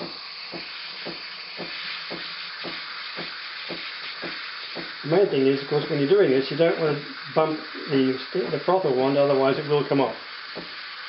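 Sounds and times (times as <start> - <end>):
espresso steam wand hissing: 0.0 - 11.0.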